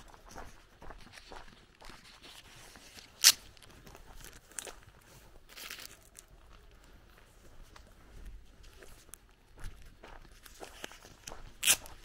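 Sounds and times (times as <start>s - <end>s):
footsteps crunching on dirt: 0.0s - 2.8s, 3.8s - 12.0s.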